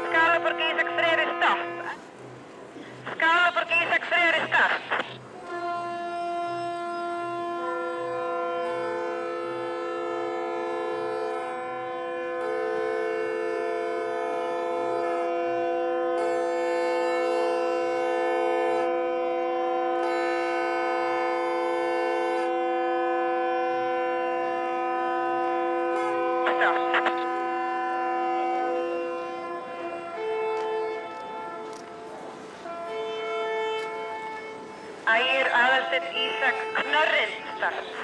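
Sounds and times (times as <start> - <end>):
ships' horns sustained chord: 0.0 - 2.8, 5.2 - 38.0
ship horn blasts: 0.0 - 3.0, 4.4 - 38.0.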